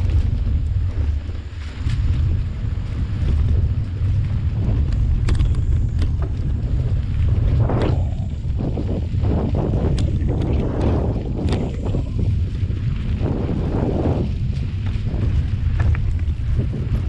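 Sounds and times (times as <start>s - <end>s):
bike clicks and rattles: 0.0s - 17.0s
bike tyres rumbling on dirt: 0.0s - 17.0s
wind buffeting microphone: 0.0s - 17.0s.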